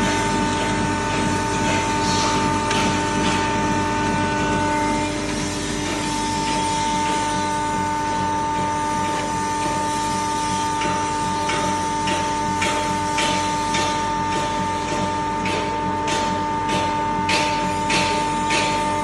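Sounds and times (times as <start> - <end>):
grinder machine whining: 0.0 - 19.0.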